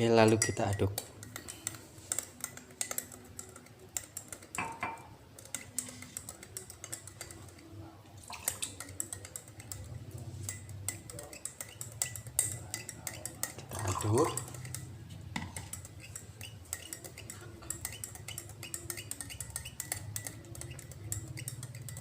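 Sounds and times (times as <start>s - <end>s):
spoon clinking against glass: 0.0s - 7.7s, 8.3s - 22.0s.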